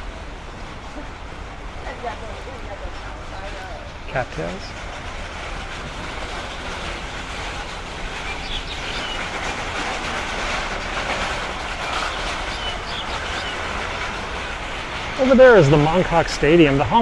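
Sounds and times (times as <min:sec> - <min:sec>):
city background rumble and hiss: 0:00.0 - 0:17.0.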